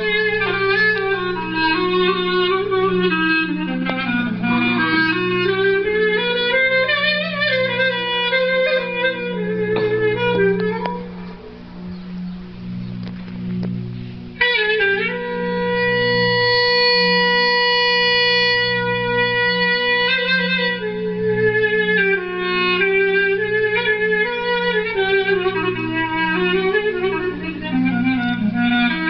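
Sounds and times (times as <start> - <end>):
clarinet melody: 0.0 - 29.0
steady low drone: 0.0 - 29.0.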